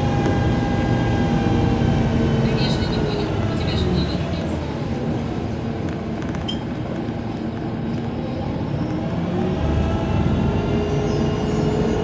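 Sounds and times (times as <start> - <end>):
bus engine and rolling rumble: 0.0 - 12.0.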